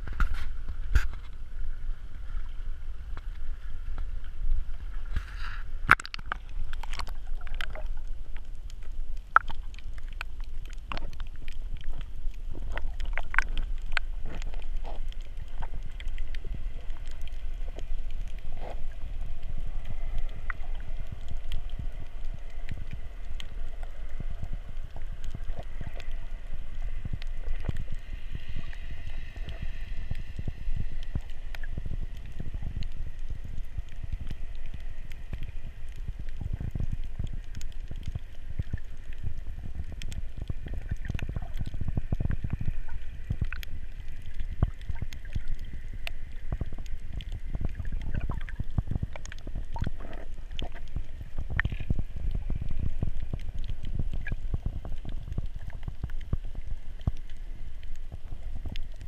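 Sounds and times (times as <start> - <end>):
muffled underwater rumble: 0.0 - 59.0
thin steady hum: 0.0 - 59.0
faint clicks: 2.1 - 59.0.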